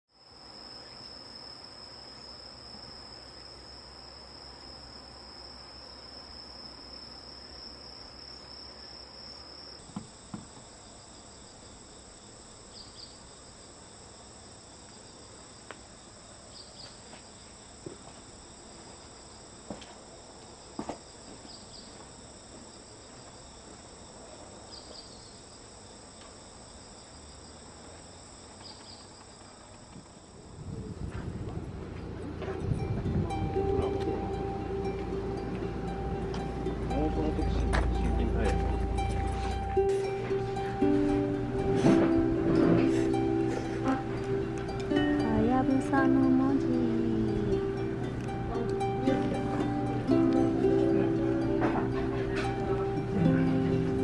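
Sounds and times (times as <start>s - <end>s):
insect chirping call: 0.1s - 54.0s
insects trilling chorus: 0.1s - 54.0s.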